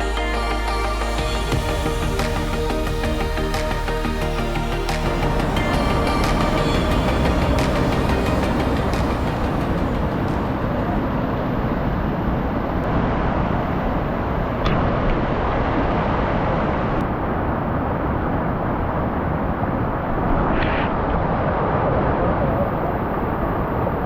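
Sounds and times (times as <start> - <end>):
rushing river water: 0.0 - 24.0.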